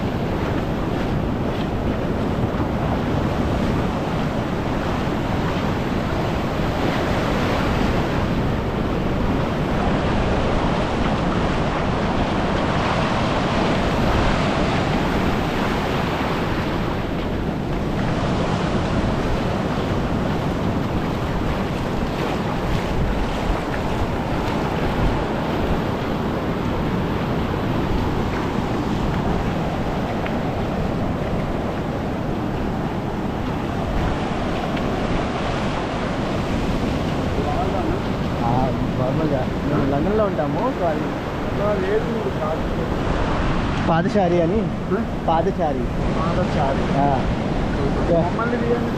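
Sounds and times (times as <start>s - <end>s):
surf breaking on beach: 0.0s - 48.9s
wind buffeting microphone: 0.0s - 48.9s.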